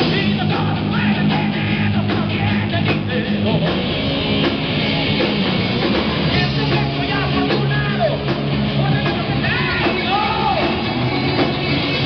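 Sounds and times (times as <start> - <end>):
bass guitar: 0.0 - 12.0
drum kit: 0.0 - 12.0
electric guitars: 0.0 - 12.0.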